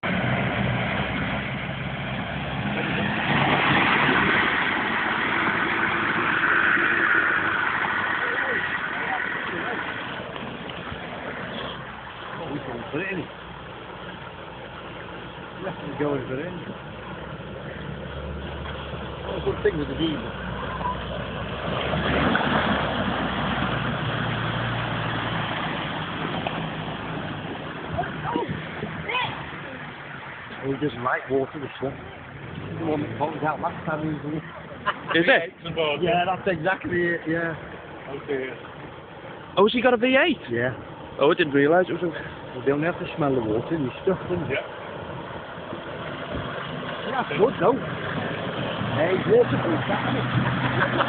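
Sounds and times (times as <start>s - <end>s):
vehicle engine running: 0.0s - 35.3s, 36.2s - 51.0s.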